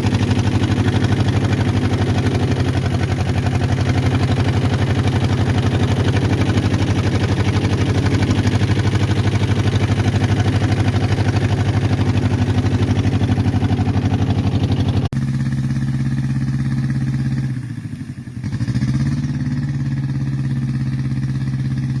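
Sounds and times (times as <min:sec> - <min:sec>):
small boat engine pulsing: 0:00.0 - 0:22.0.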